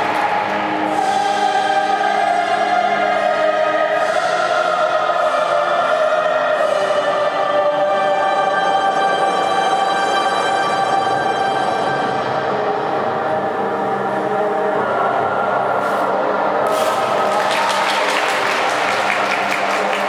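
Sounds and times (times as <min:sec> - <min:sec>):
choir singing sustained notes: 0:00.0 - 0:20.0.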